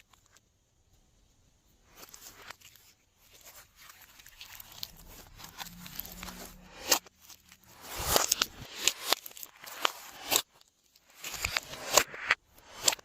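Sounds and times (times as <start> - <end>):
slime squishing and crackling: 1.9 - 13.0.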